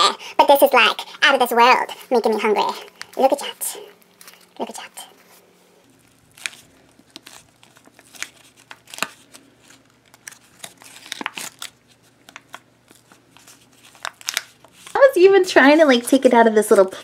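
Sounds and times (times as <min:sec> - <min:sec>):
paper wrapper crinkling: 0:00.0 - 0:17.0.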